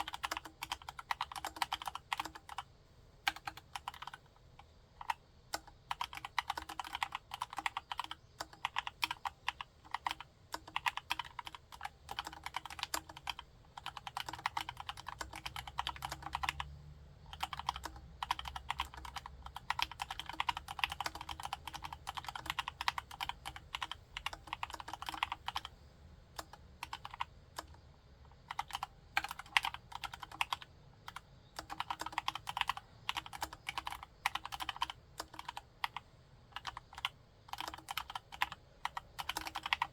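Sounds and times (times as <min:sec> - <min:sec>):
typing on keyboard: 0:00.0 - 0:25.8, 0:26.4 - 0:39.9.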